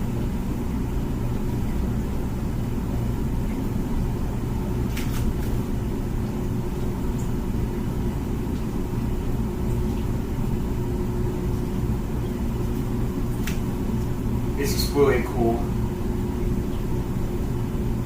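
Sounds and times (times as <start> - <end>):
dishwasher humming: 0.0 - 18.0.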